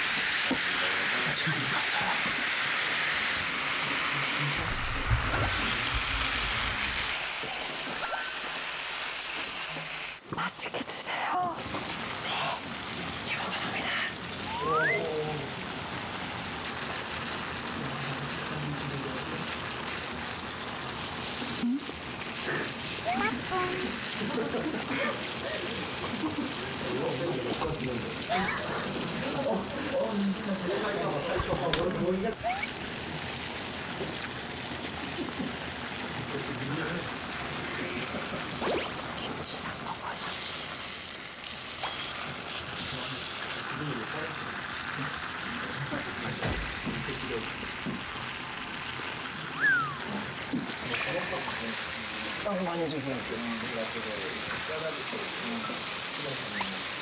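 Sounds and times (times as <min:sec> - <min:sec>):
meat sizzling in a hot pan: 0:00.0 - 0:10.3, 0:11.3 - 0:57.0.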